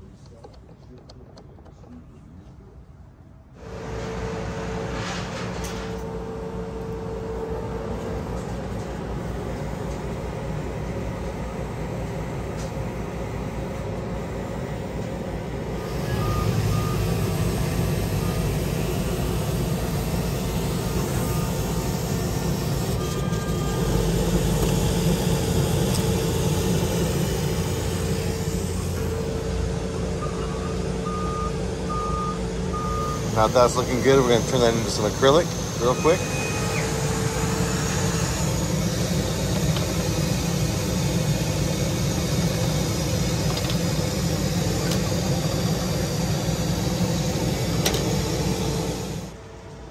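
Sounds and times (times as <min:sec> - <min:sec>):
laser cutter machine hum and fan: 0:02.6 - 0:49.9.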